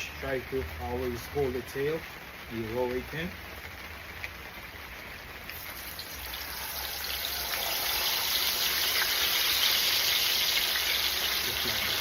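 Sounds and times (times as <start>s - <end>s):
fish frying in sizzling oil: 0.0s - 12.0s.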